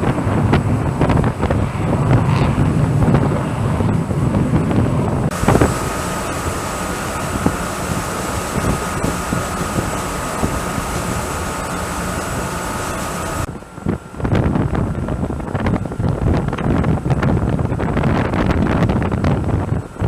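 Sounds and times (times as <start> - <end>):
mechanical drone with high whine: 0.0 - 20.0
wind on microphone: 0.0 - 20.0.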